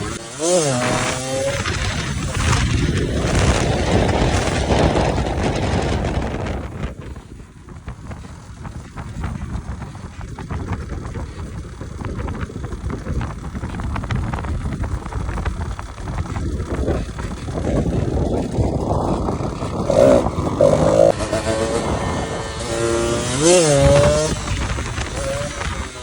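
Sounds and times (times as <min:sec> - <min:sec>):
two-stroke engine running: 0:00.0 - 0:26.0.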